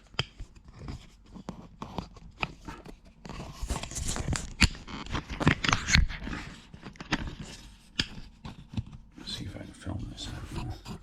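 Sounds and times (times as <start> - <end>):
handling rustling and scraping: 0.0 - 11.0.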